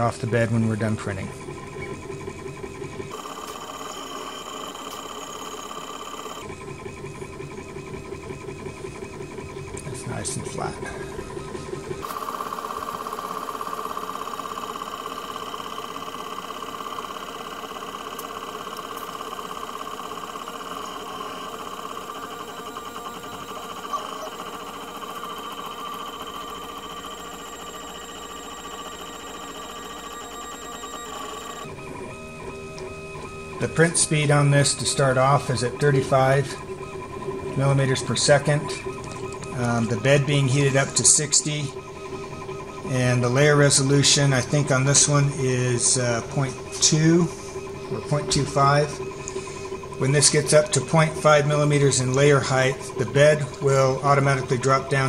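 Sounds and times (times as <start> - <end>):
three d printer stepper motor whine: 0.0 - 55.0.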